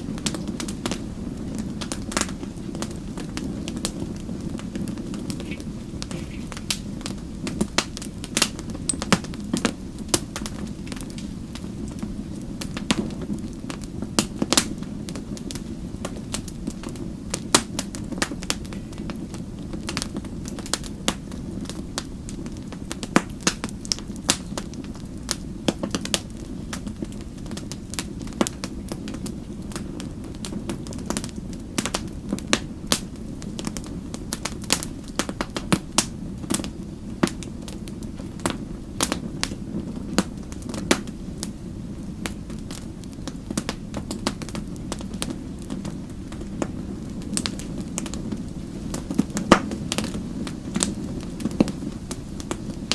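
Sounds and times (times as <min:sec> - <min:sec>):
fire crackling and popping: 0:00.0 - 0:52.9
wood fire burning: 0:00.0 - 0:52.9.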